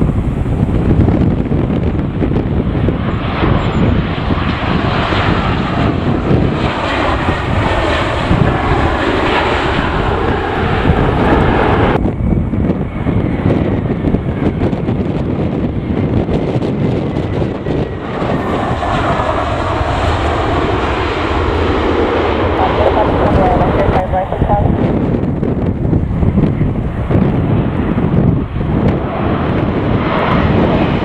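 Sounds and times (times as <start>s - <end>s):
jet engines roaring: 0.0s - 31.0s
wind rumbling on microphone: 0.0s - 31.0s.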